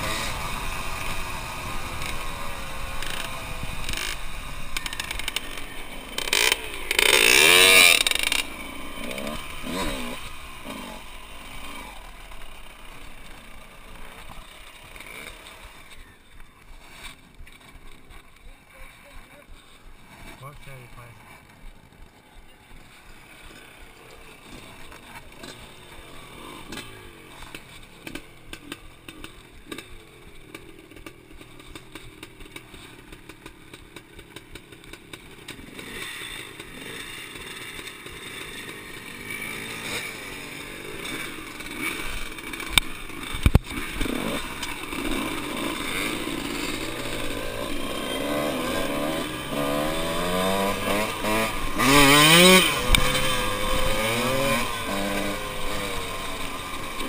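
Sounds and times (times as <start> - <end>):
motorbike engine revving: 0.0 - 18.2, 20.4 - 57.0
dirt bike engines: 0.0 - 57.0.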